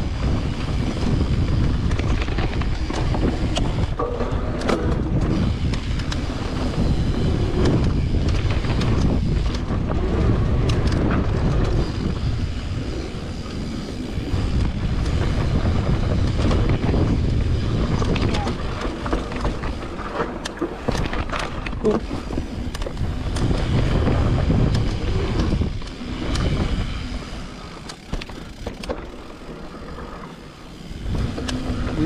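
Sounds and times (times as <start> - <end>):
wind buffeting microphone: 0.0 - 30.0, 30.7 - 32.0
bike clicks and rattles: 0.0 - 32.0
tyres rumbling on dirt: 0.0 - 32.0.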